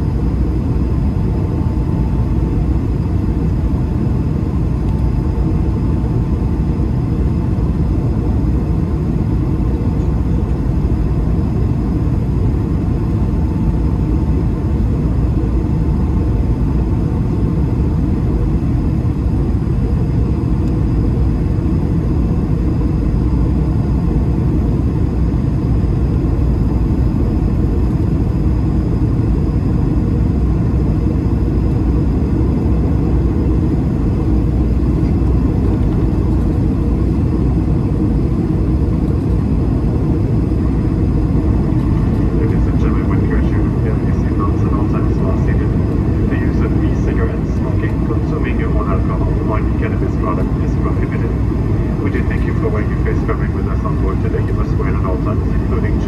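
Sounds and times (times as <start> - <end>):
faint steady whine: 0.0 - 56.0
jet cabin rumble: 0.0 - 56.0.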